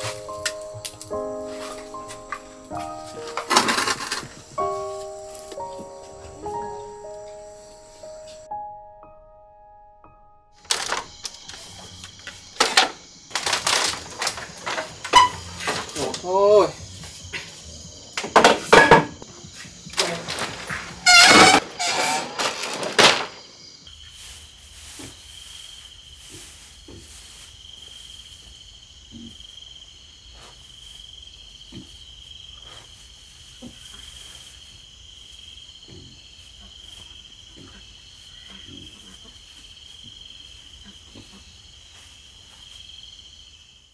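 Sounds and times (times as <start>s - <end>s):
crickets chirring: 0.0s - 43.9s.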